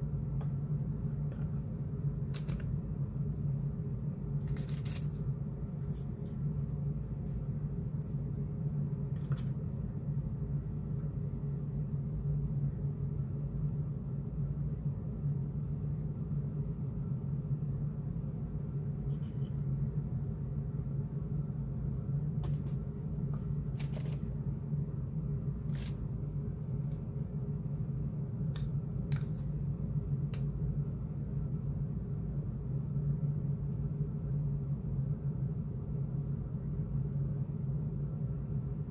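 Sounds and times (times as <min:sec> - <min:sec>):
low background hum: 0:00.0 - 0:38.9.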